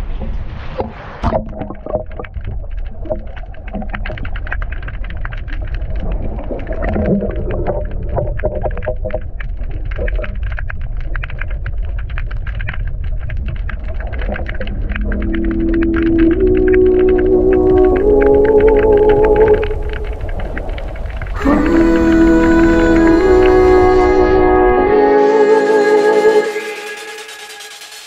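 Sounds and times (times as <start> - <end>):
underwater low rumble: 0.0 - 25.3
microphone plunging into water: 0.2 - 24.7
crackling clicks underwater: 0.2 - 24.8.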